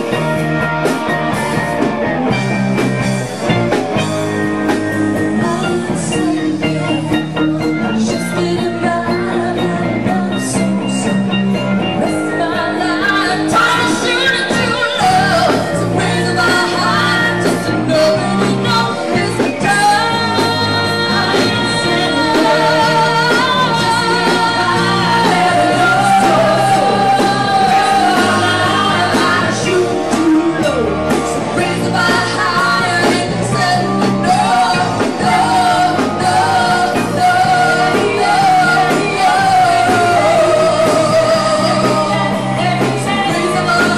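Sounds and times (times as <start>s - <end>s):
rock band playing: 0.0s - 43.9s
woman singing: 5.3s - 11.2s, 12.0s - 43.9s.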